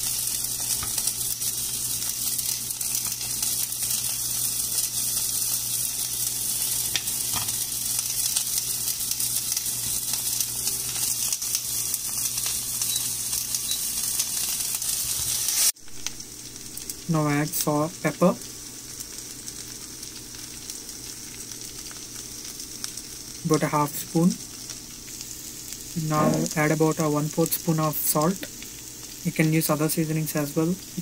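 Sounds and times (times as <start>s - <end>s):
food sizzling in oil: 0.0s - 31.0s.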